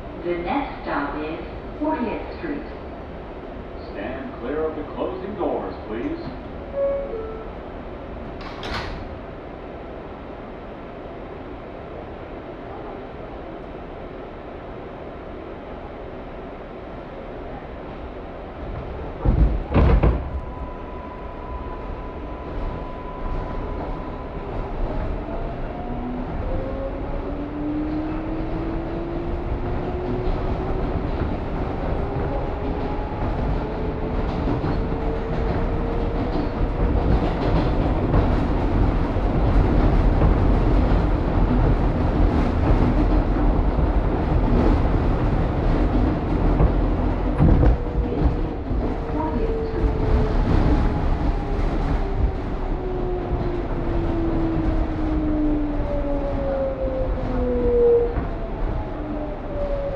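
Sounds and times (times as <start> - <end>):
train running along rails: 0.0 - 59.9.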